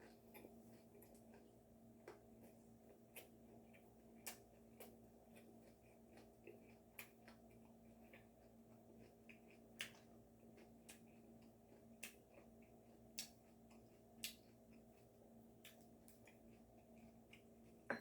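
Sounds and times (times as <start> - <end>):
low appliance hum: 0.0 - 18.0
person chewing food: 0.0 - 18.0.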